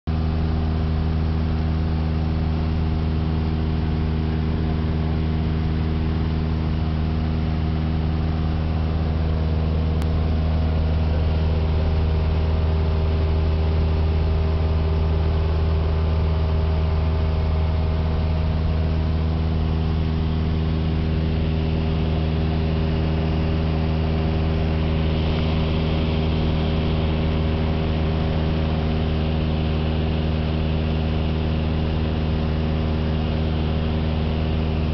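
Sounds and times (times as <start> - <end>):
aircraft engine drone: 0.3 - 34.9.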